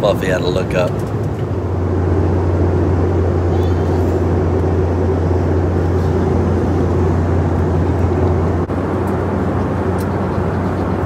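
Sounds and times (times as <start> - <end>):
airliner engine drone: 0.0 - 11.0.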